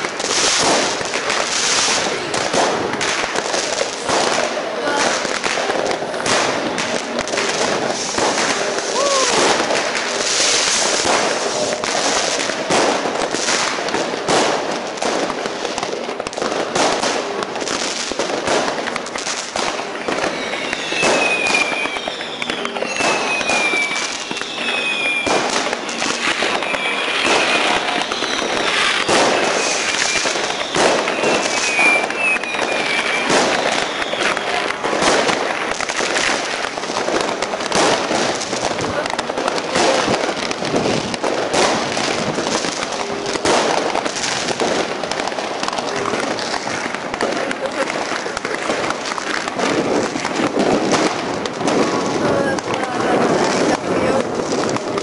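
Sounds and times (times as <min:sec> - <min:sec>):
firecracker and rocket bangs: 0:00.0 - 0:55.0
whistling fireworks falling in pitch: 0:00.0 - 0:55.0.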